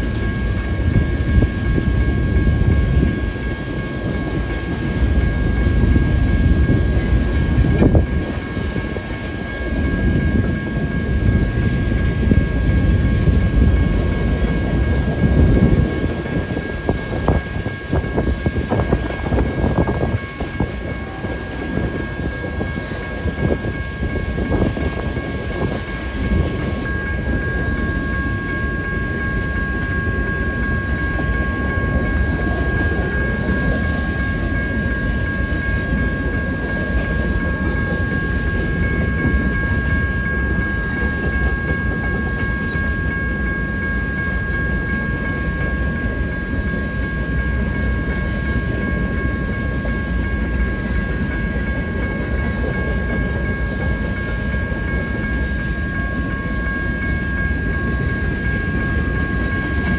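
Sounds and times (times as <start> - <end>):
clickety-clack of rails: 0.0 - 59.9
freight train wheels rumbling: 0.0 - 59.9
high-pitched ringing tones: 0.0 - 59.9.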